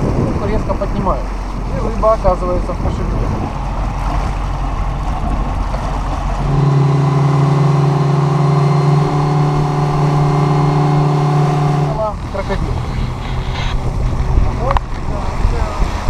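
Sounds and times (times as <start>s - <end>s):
motorboat engine running: 0.0s - 16.0s
rush of boat wake: 0.0s - 16.0s
wind: 0.0s - 16.0s.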